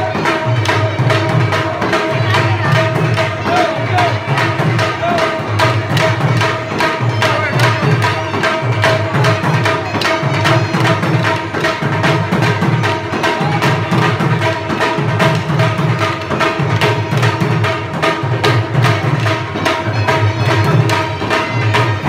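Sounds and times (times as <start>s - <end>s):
barrel drum beating: 0.0s - 22.0s.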